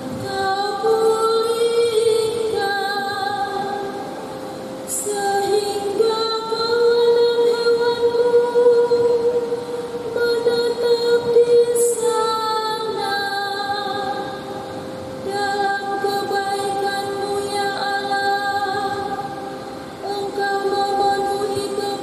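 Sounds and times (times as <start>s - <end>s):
woman singing psalm refrain: 0.1s - 22.0s.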